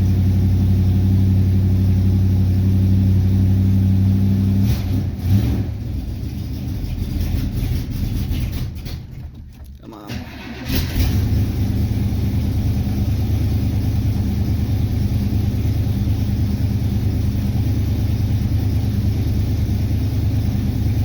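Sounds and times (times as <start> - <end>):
car engine idling with lope: 0.0 - 21.0.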